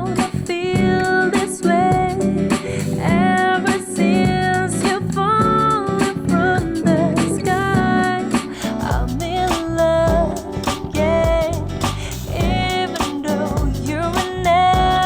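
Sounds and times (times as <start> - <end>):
song with singing and guitar: 0.0 - 15.0.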